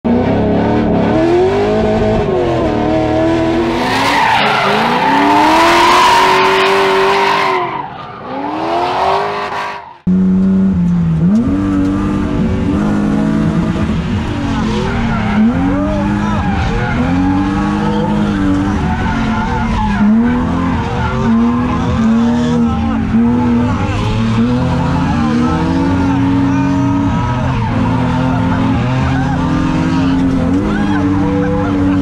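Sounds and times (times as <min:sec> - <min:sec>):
car engine revving: 0:00.1 - 0:32.0
tires squealing: 0:00.4 - 0:10.1, 0:12.6 - 0:32.0.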